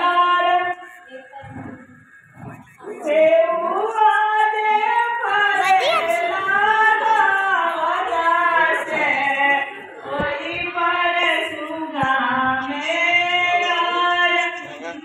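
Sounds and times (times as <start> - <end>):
women singing into a microphone: 0.0 - 1.9, 2.5 - 14.9.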